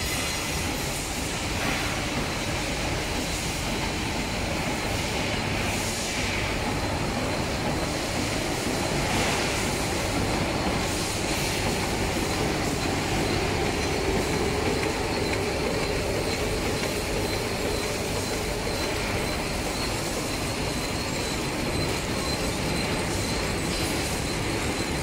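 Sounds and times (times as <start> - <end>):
faint high machine whine: 0.0 - 25.0
packing machine clatter and hum: 0.0 - 25.0.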